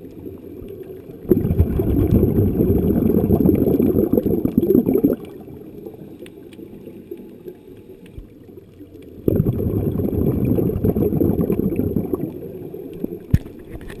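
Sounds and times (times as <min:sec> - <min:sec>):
underwater breath bubbles: 0:01.2 - 0:08.3, 0:09.2 - 0:13.3.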